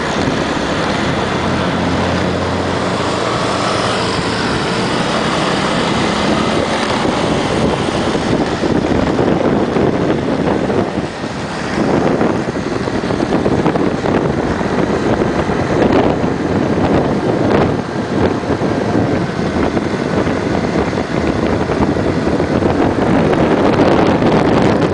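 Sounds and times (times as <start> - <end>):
motorbike engine: 0.0 - 24.9
road noise: 0.0 - 24.9
wind rushing over microphone: 0.0 - 24.9.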